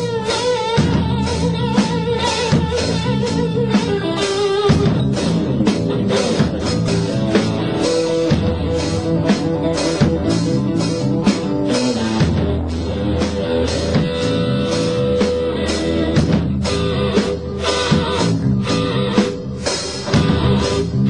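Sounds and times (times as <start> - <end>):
electric guitar lead lines: 0.0 - 21.0
steady drum beat: 0.0 - 21.0.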